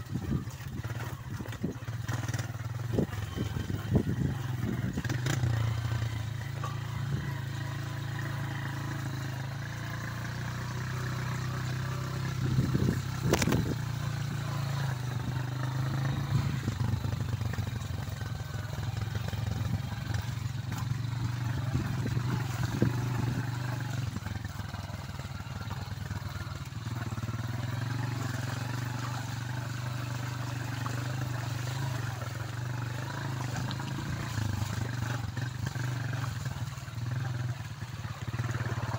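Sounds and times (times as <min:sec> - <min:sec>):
knocks and clatter from motorcycle: 0:00.0 - 0:38.9
small motorcycle engine running: 0:00.0 - 0:38.9.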